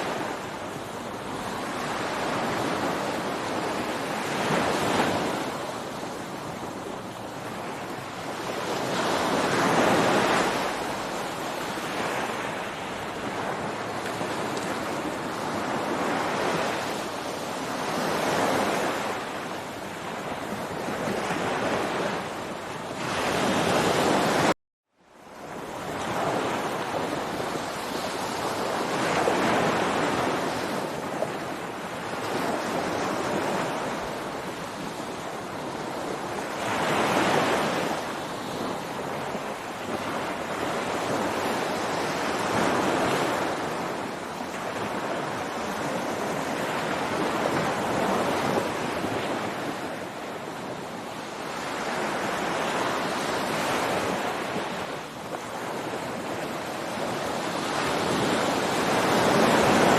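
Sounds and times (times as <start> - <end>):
ocean surf breaking: 0.0 - 24.6, 25.6 - 59.9.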